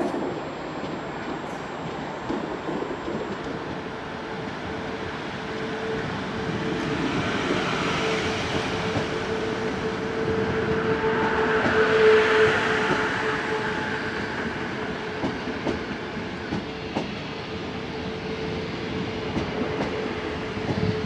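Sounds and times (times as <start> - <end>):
train whine and rumble: 0.0 - 21.0.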